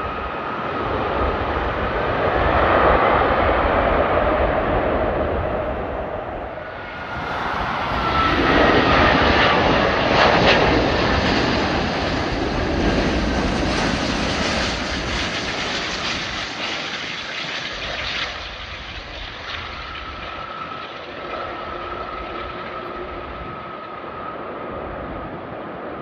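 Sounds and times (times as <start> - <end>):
jet airliner engine rushing: 0.0 - 26.0.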